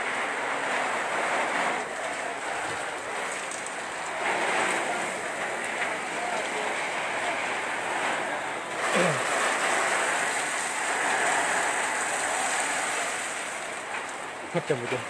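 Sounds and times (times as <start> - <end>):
fire hoses spraying water: 0.0 - 15.0.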